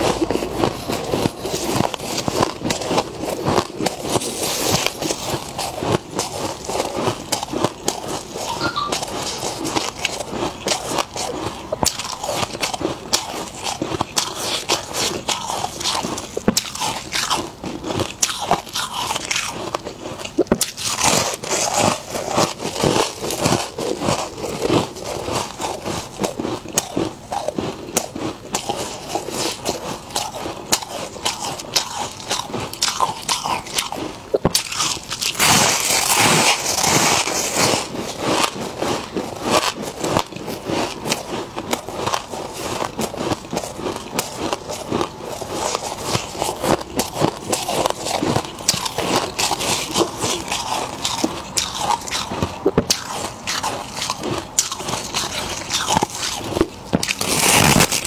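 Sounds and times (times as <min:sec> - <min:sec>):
crunching of packed ice: 0:00.0 - 0:58.0.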